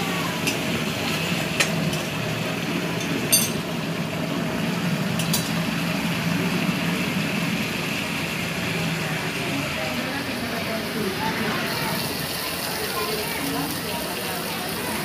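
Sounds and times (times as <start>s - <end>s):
meat frying: 0.0s - 15.0s.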